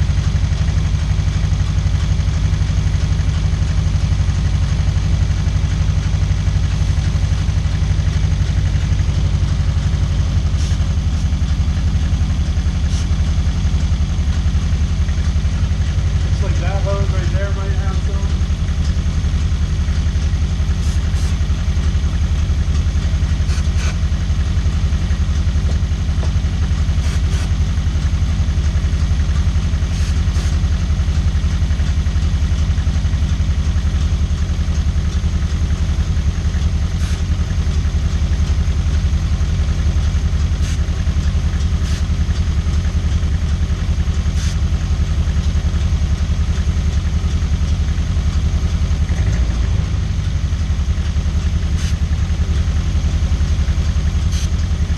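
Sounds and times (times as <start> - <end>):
car engine idling: 0.0 - 54.9
faint engine ticks: 0.1 - 54.9.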